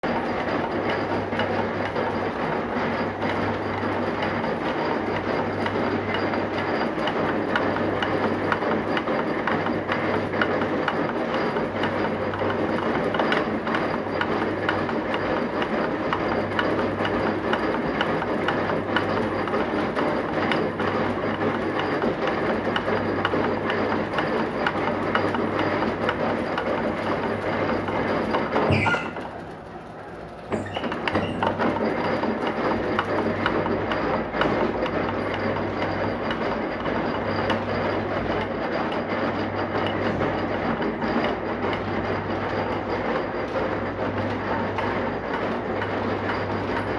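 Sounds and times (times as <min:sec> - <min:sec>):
heavy machinery rattling and knocking: 0:00.0 - 0:46.9.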